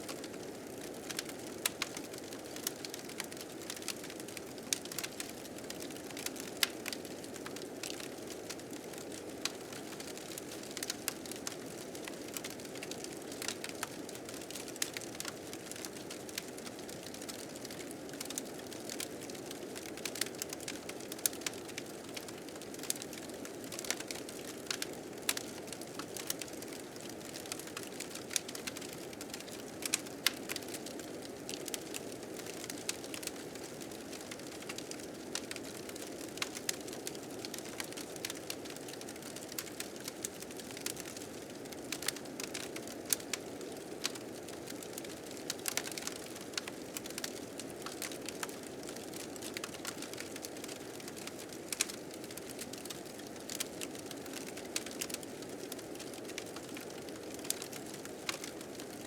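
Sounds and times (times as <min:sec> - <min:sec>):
wood fire crackling and popping: 0:00.1 - 0:59.0.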